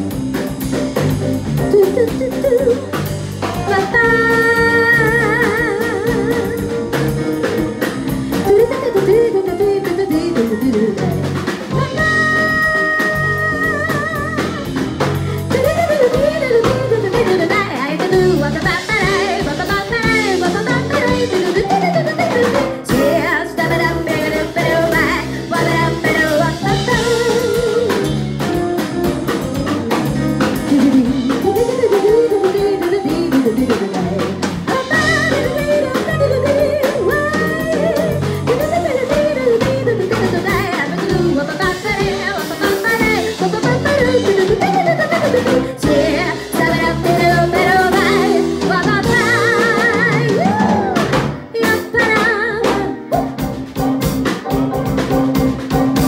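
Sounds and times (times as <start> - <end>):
jazz band playing: 0.0 - 56.0
woman singing: 1.6 - 7.3, 8.3 - 29.4, 30.4 - 53.4.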